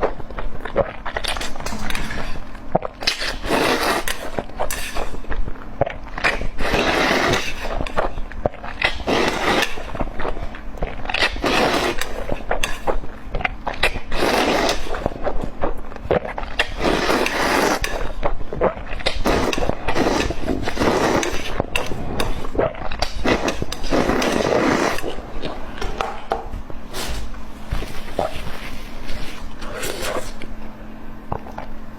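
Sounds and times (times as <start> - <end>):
person chewing food: 0.0 - 30.6.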